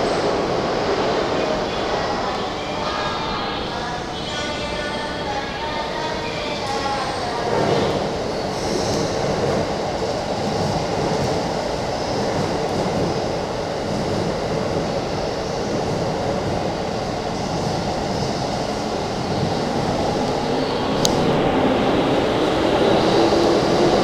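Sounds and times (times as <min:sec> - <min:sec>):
electric train rumbling on rails: 0:00.0 - 0:24.0.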